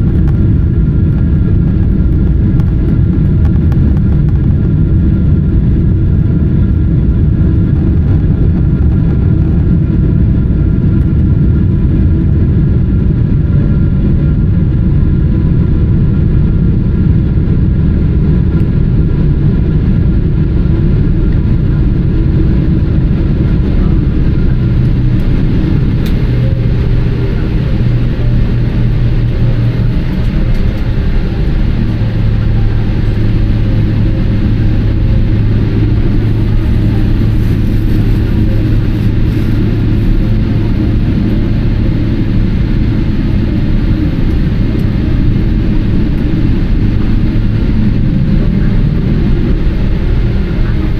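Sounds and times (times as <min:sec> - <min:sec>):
airplane cabin engine rumble: 0:00.0 - 0:50.9
low steady hum: 0:00.0 - 0:50.9.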